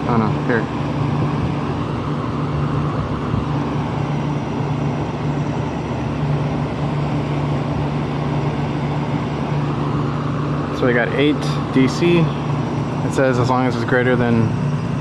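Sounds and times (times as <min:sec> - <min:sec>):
air conditioning unit running: 0:00.0 - 0:15.0.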